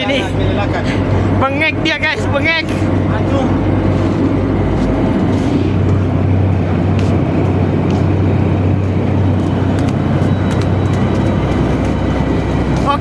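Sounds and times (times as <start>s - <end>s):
boat machinery droning: 0.0s - 13.0s.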